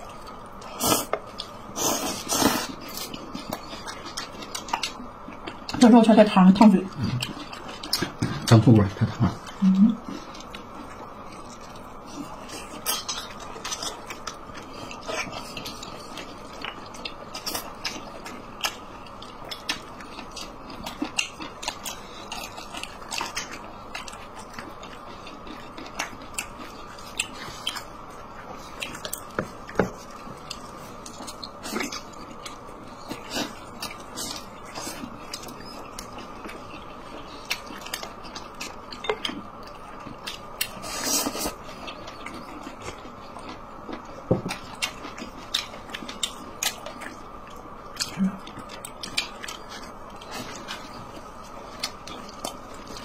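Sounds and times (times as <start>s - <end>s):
person chewing and lip smacking: 9.3s - 53.0s.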